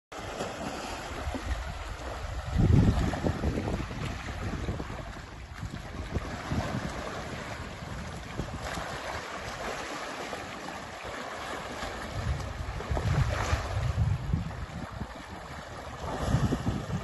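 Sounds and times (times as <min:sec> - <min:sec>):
water splashing and sloshing: 0:00.1 - 0:17.0
wind buffeting microphone: 0:00.9 - 0:10.3, 0:11.6 - 0:17.0.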